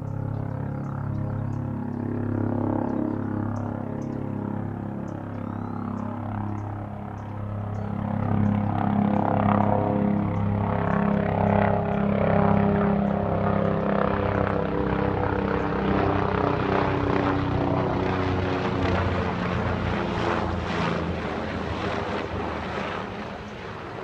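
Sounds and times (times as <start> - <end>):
helicopter droning hum: 0.0 - 24.0.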